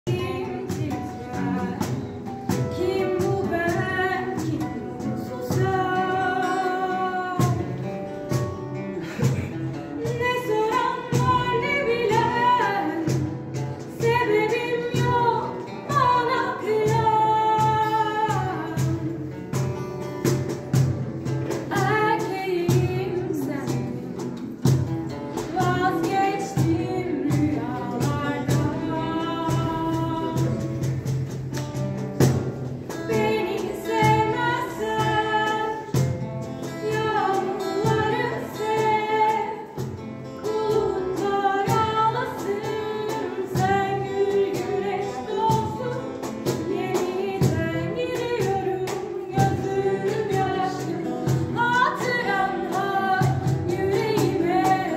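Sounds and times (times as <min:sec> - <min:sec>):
woman singing: 0:00.0 - 0:20.9, 0:21.5 - 0:31.2, 0:32.8 - 0:54.9
guitar: 0:00.0 - 0:54.9.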